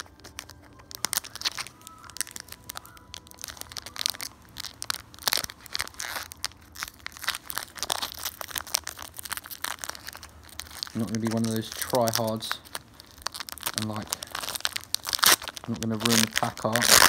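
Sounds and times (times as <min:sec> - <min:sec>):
foil wrapper crinkling: 0:00.0 - 0:17.0.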